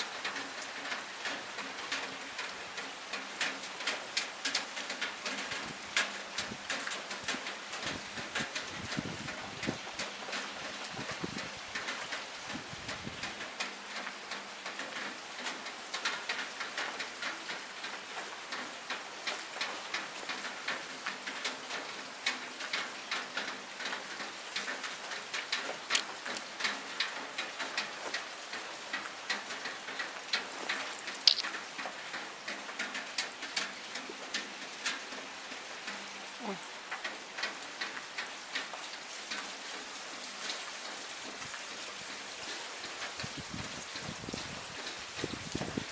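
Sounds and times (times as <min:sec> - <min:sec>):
rain drumming on a window ledge: 0:00.0 - 0:45.9.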